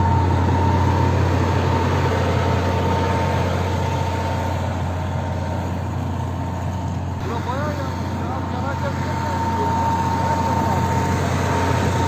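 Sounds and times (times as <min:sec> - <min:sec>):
faint steady whine: 0:00.0 - 0:12.0
heavy engine humming: 0:00.0 - 0:12.0.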